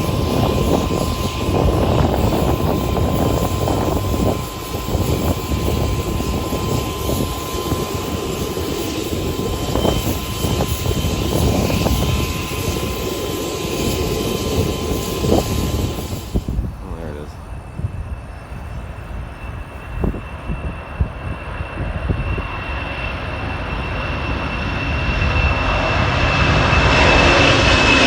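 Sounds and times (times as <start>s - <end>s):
jet engines at takeoff power: 0.0s - 28.0s.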